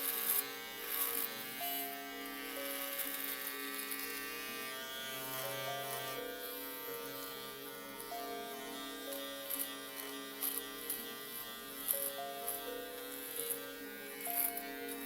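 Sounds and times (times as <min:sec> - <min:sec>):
electric shaver buzzing: 0:00.0 - 0:15.0
soft melody of held notes: 0:00.0 - 0:15.0.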